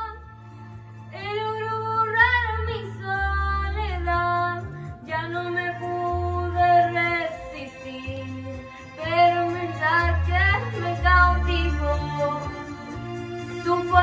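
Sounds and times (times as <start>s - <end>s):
woman singing into a microphone: 0.0s - 0.2s, 1.2s - 12.9s, 13.5s - 14.0s.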